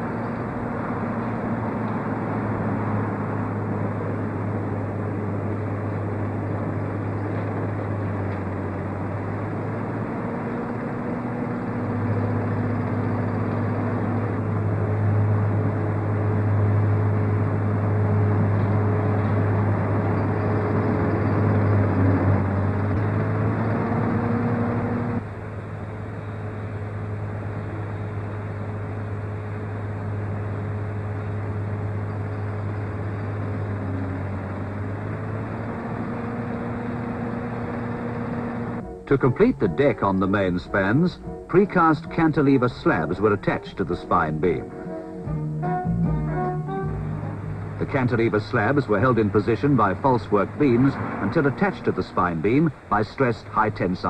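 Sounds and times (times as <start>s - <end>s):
construction machinery engine humming: 0.0s - 54.0s.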